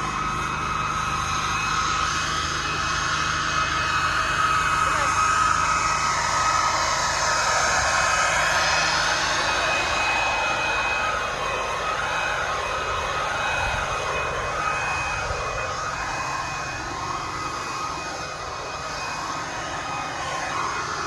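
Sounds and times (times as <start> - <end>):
leaf blower running: 0.0 - 21.0.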